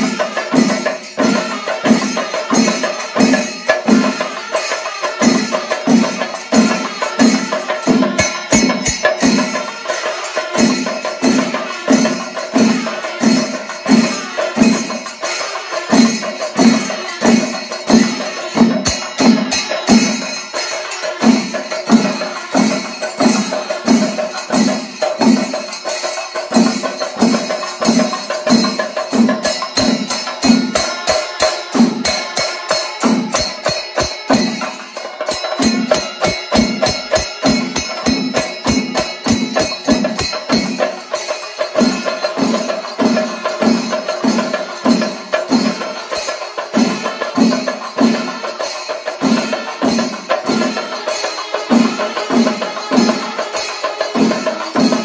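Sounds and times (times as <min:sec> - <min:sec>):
drums beaten with sticks: 0:00.0 - 0:55.0
hand cymbals: 0:00.0 - 0:55.0.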